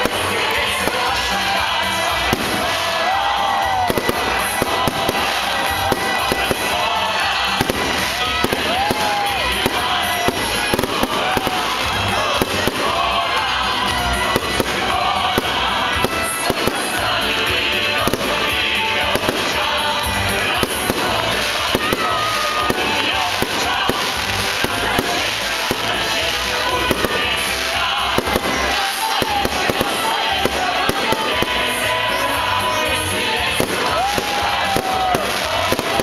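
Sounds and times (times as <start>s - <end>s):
background music: 0.0s - 36.0s
bonfire crackling and popping: 0.0s - 36.0s.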